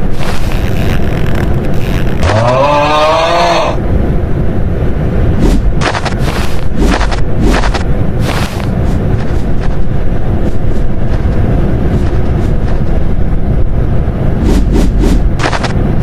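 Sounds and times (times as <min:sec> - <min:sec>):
loud low rumbling: 0:00.0 - 0:16.0.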